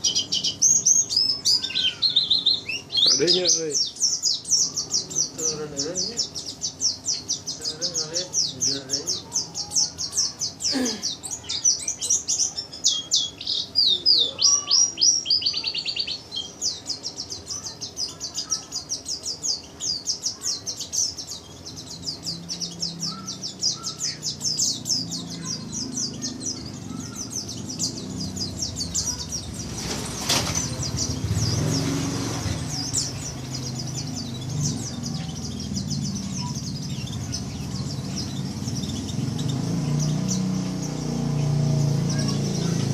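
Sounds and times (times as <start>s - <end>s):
bird chirping trills: 0.0s - 42.9s.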